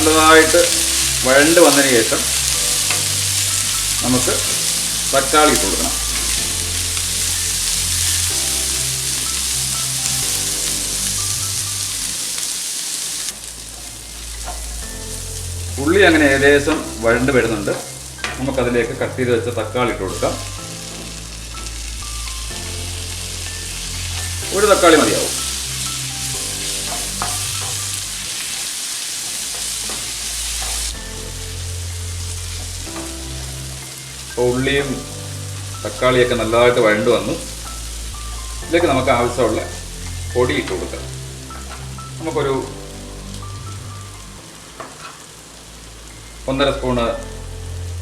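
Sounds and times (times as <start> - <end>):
background music: 0.0 - 48.0
vegetables sizzling in hot oil: 0.0 - 48.0.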